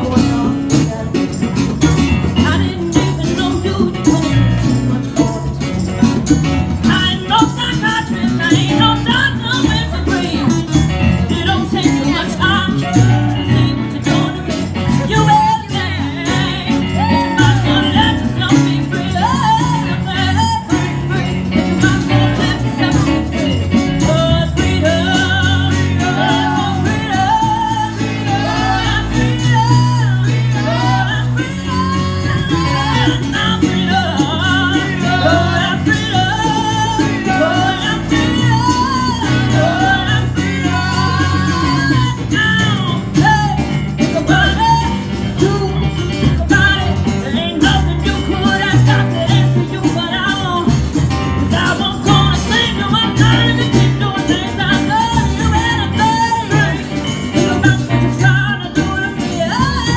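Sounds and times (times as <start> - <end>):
keyboard: 0.0 - 59.9
woman singing with vibrato: 2.2 - 5.8, 6.8 - 59.9.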